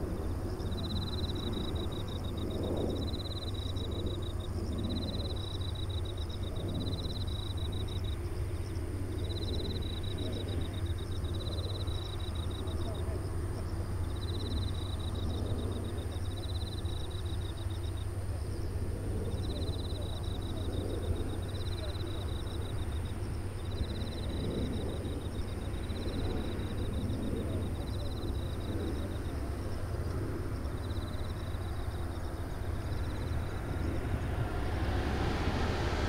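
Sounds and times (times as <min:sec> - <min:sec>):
insects trilling in bursts: 0:00.0 - 0:36.0
jet engines rumbling overhead: 0:00.0 - 0:36.0.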